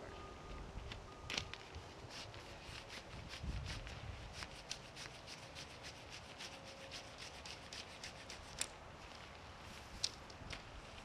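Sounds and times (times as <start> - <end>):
tent fabric and poles rustling: 0.0 - 11.0.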